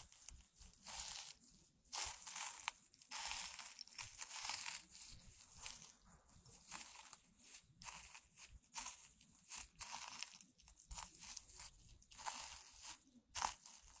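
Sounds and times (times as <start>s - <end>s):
dried tea crunching and crinkling: 0.0s - 14.0s.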